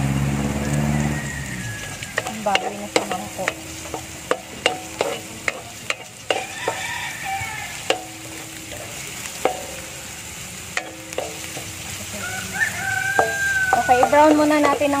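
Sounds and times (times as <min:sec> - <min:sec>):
onion and garlic sizzling: 0:00.0 - 0:15.0
spatula knocking ringing wok: 0:00.4 - 0:15.0.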